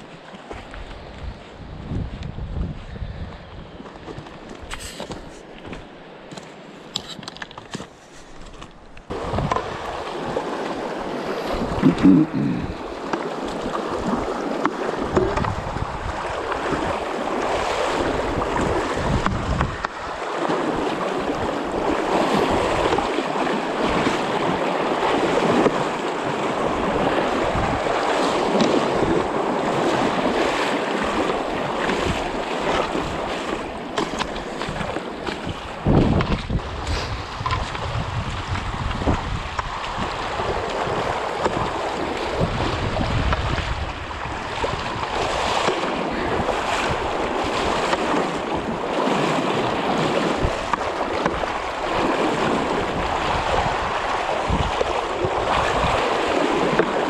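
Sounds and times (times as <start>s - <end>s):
river water rushing and splashing: 8.8s - 57.0s.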